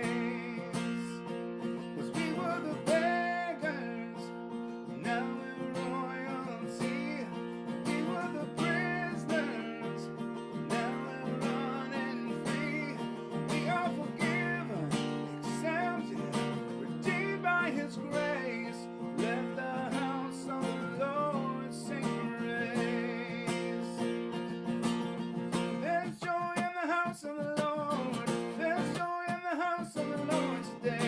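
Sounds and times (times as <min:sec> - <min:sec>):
strummed acoustic guitar: 0:00.0 - 0:31.0.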